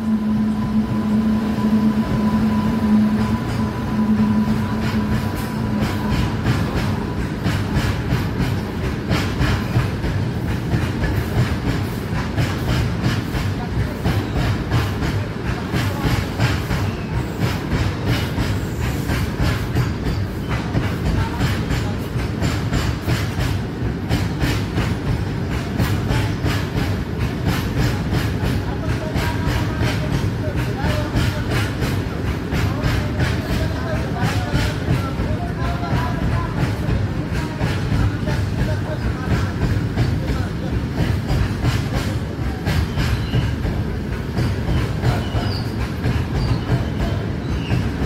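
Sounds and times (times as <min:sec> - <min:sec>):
freight train rumbling: 0:00.0 - 0:48.0.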